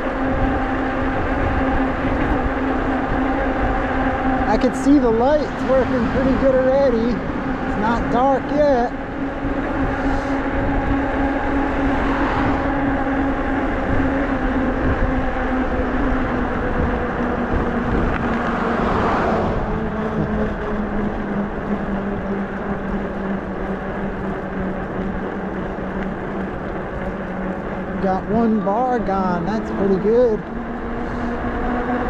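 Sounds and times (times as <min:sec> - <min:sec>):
electric bike hum: 0:00.0 - 0:32.0
vehicle passing: 0:00.0 - 0:32.0
wind rush: 0:00.0 - 0:32.0.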